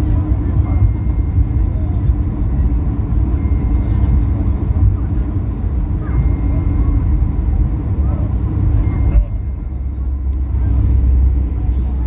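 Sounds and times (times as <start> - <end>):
steady cabin hum: 0.0 - 12.0
wheels rumbling on runway: 0.0 - 12.0.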